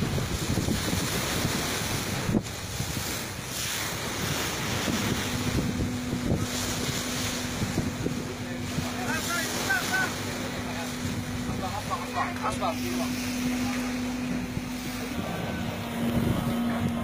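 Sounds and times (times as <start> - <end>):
choppy lake water: 0.0 - 17.0
steady low hum: 0.0 - 17.0
wind buffeting microphone: 0.0 - 17.0.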